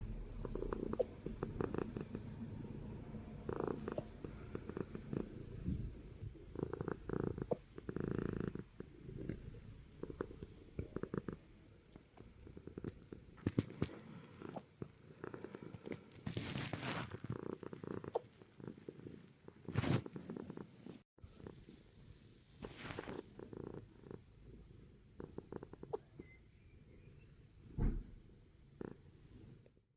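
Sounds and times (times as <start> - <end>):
cat purring: 0.0 - 29.7.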